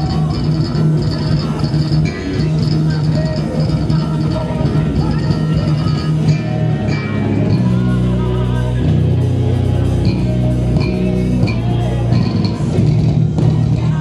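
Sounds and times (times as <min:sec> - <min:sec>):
electric bass riff: 0:00.0 - 0:14.0.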